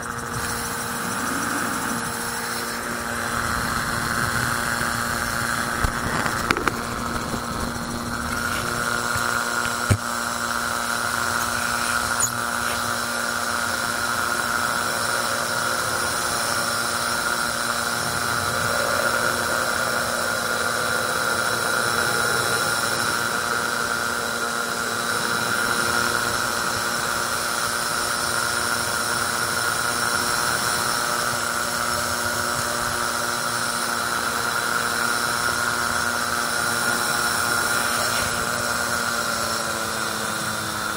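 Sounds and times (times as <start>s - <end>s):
aircraft engine and propeller drone: 0.0s - 40.9s
steady high whine: 0.0s - 40.9s.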